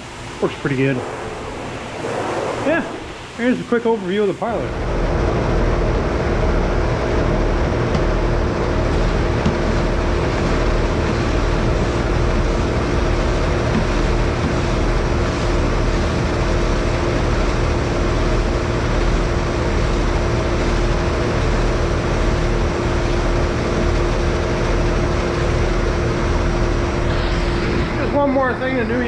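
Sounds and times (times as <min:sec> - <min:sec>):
constant hum: 0:00.0 - 0:29.0
machinery drone: 0:00.0 - 0:29.0.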